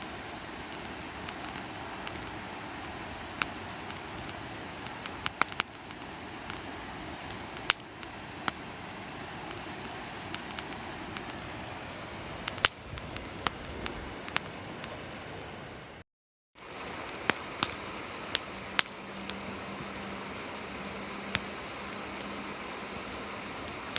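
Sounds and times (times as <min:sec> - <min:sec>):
campfire crackling and popping: 0:00.0 - 0:16.0, 0:16.6 - 0:23.9.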